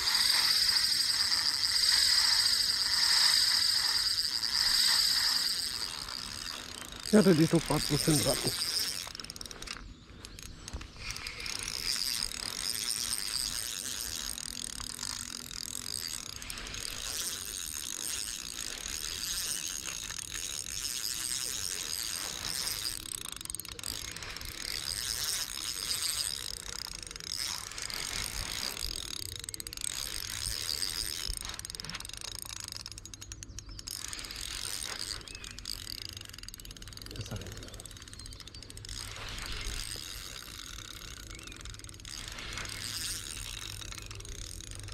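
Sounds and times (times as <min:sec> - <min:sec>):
spinning reel gears whirring: 0:00.0 - 0:44.9.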